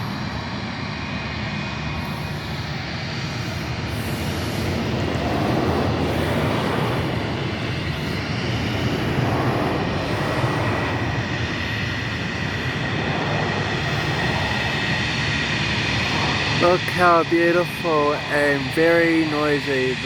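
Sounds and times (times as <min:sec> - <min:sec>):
jet engine high whine: 0:00.0 - 0:20.0
jet engines rushing: 0:00.0 - 0:20.0.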